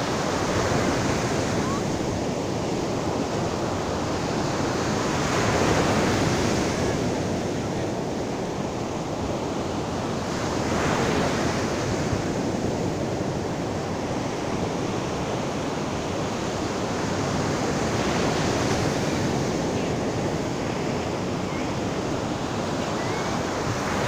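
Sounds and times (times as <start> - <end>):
sea surf breaking on beach: 0.0 - 24.0.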